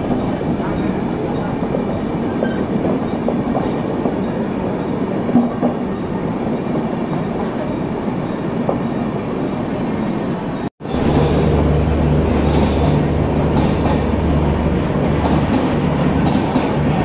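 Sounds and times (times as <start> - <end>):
train coaches rumbling on rails: 0.0 - 17.0.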